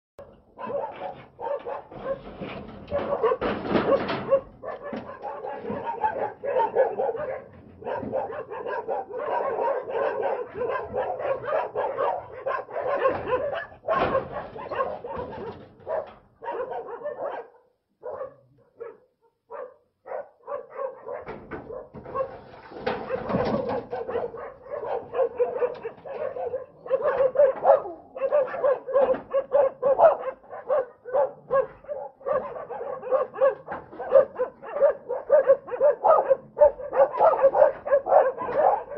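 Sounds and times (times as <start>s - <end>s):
dog barking: 0.2s - 38.9s.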